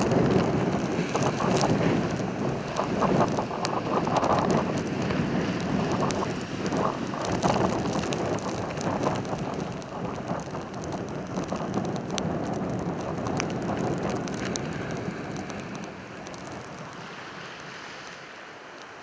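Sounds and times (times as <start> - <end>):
wind buffeting microphone: 0.0 - 17.8
faint ticks: 0.0 - 19.0.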